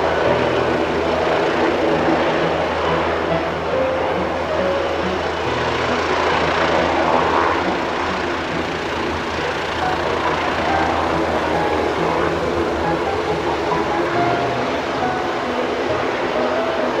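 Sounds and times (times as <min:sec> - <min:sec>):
aircraft engines droning: 0:00.0 - 0:17.0
low humming tones: 0:00.0 - 0:17.0.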